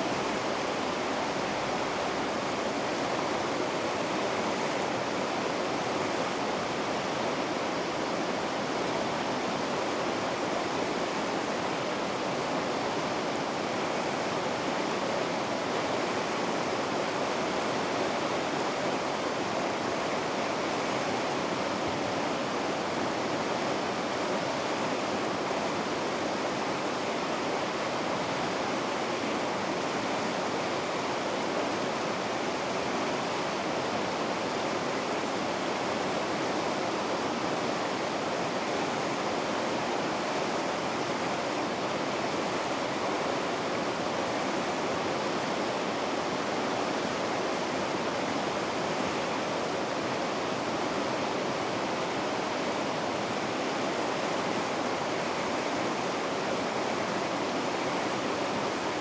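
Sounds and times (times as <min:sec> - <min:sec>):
water rushing over rapids: 0:00.0 - 0:59.0.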